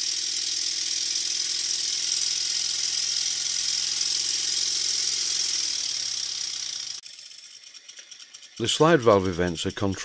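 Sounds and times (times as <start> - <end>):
model steam engine buzzing: 0.0 - 10.0.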